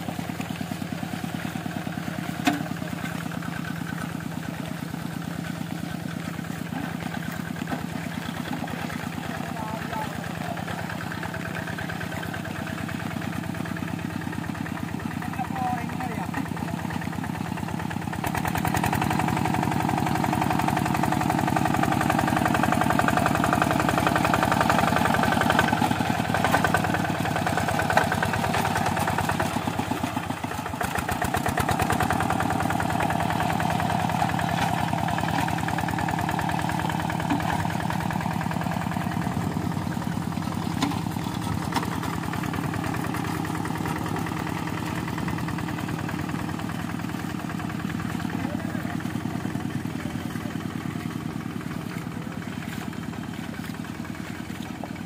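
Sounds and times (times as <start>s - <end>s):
diesel tractor engine under load: 0.0s - 55.0s.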